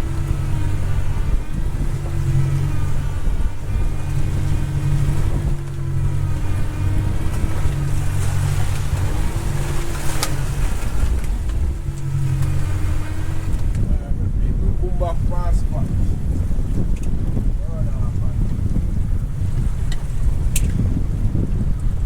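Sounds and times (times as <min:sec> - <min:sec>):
boat motor running: 0:00.0 - 0:22.0
wind and water noise: 0:00.0 - 0:22.0.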